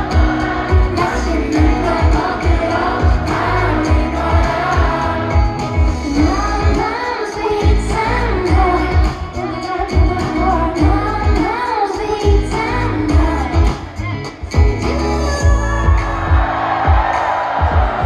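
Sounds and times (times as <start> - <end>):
woman singing into microphone: 0.0 - 16.5
pop backing track with bass beat: 0.0 - 18.0.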